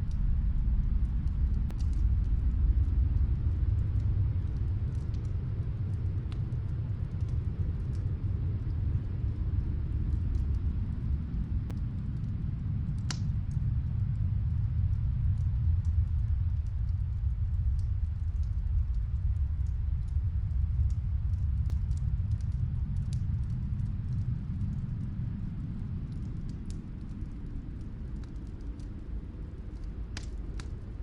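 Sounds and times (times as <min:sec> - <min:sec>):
snowstorm wind rumble: 0:00.0 - 0:31.0
wood fire crackling: 0:00.0 - 0:31.0.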